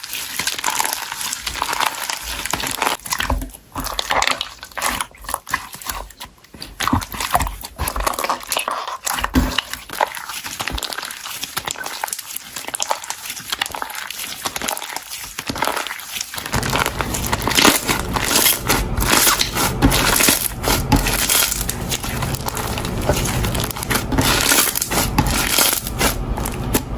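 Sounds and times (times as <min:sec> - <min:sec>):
air bubbles crackling and popping: 0:00.0 - 0:26.9
hands squishing slime: 0:00.0 - 0:26.9.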